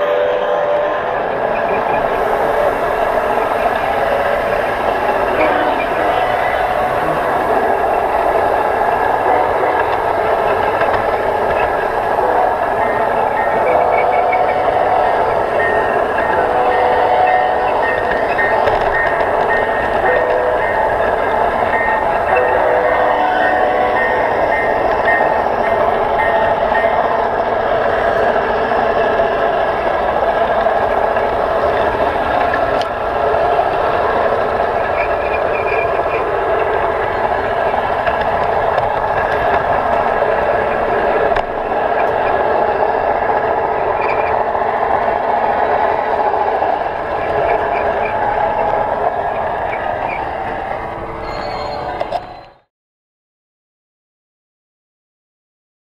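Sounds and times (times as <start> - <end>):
model train running on track: 0.0 - 52.7.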